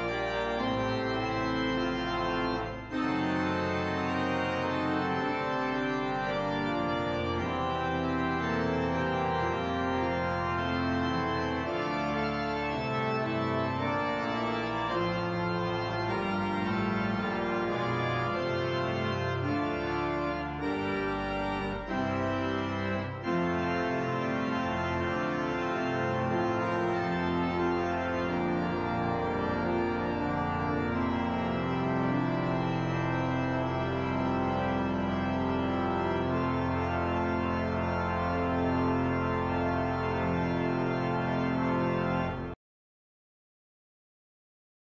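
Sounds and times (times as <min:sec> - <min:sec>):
church organ playing chords: 0:00.0 - 0:42.6.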